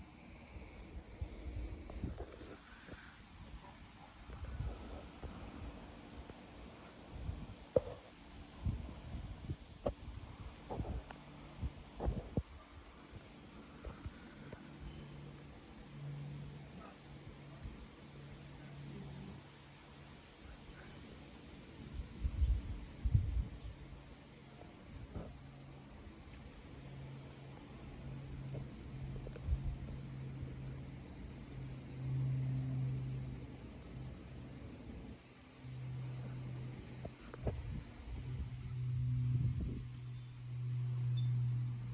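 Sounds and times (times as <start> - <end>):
low steady hum: 0.0 - 41.9
cricket chirping: 0.1 - 41.9.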